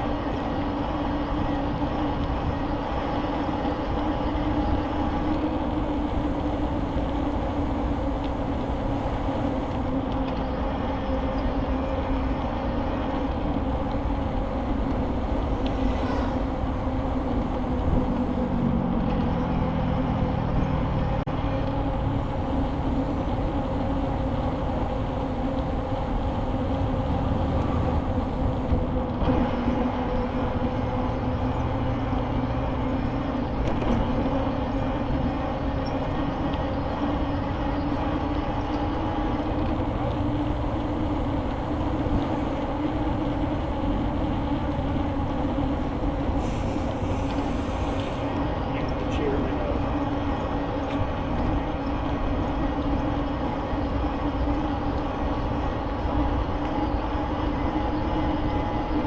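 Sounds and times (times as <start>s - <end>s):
bicycle riding rumble: 0.0s - 59.0s.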